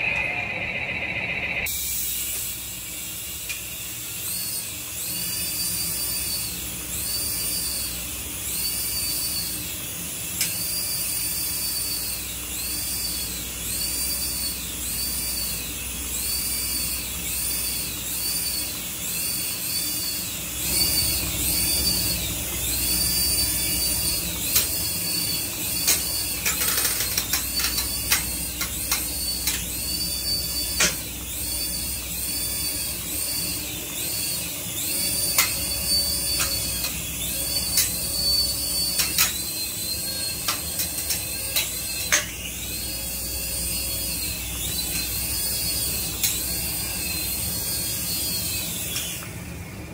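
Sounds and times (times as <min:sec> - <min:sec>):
toy helicopter rotors whining: 0:01.6 - 0:49.9.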